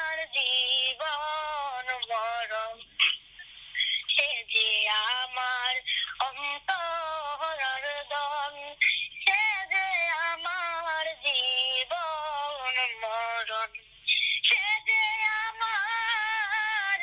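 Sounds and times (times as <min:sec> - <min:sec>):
high-pitched singing voice: 0:00.0 - 0:03.1, 0:03.9 - 0:13.8, 0:14.4 - 0:17.0.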